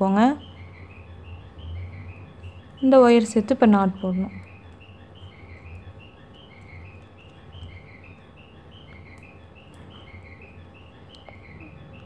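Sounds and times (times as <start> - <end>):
bird chirping: 0.0 - 12.0
low steady hum: 0.0 - 12.0.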